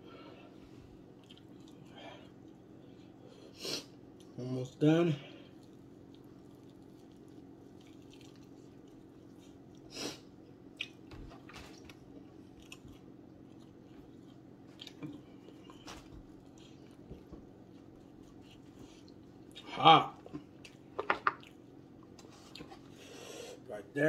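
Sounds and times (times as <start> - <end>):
faint steady hum: 0.0 - 24.0
person chewing chicken wings: 0.9 - 4.4, 5.3 - 23.0.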